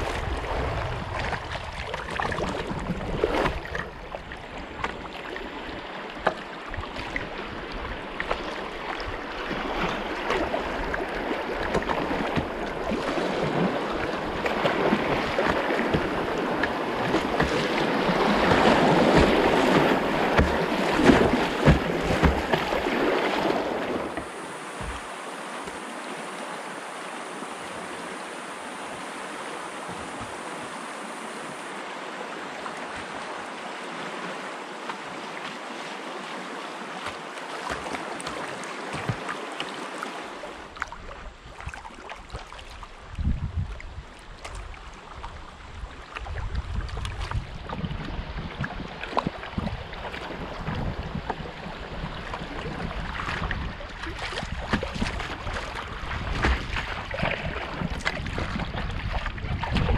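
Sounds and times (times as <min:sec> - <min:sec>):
river water rushing and splashing: 0:00.0 - 0:59.9.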